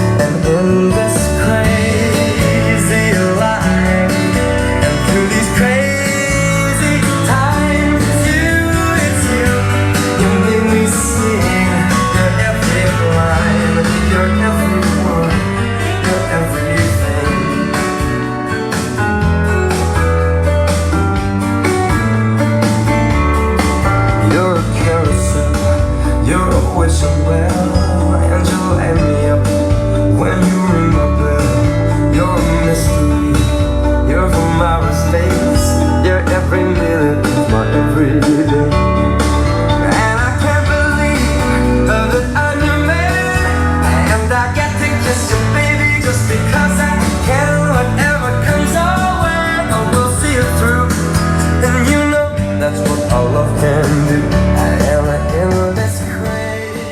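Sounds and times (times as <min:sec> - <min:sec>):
pop music with guitar and drums: 0:00.0 - 0:56.9.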